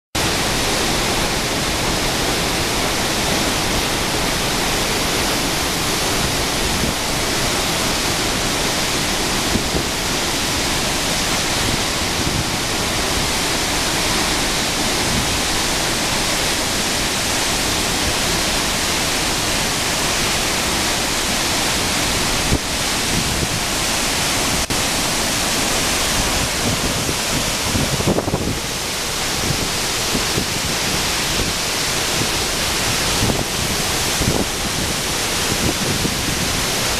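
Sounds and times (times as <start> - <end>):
waterfall rushing: 0.2 - 36.9.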